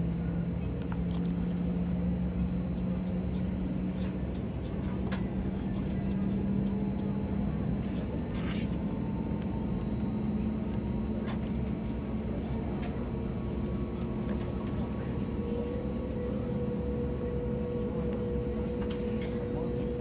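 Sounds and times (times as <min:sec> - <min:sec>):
aircraft cabin engine drone: 0:00.0 - 0:20.0.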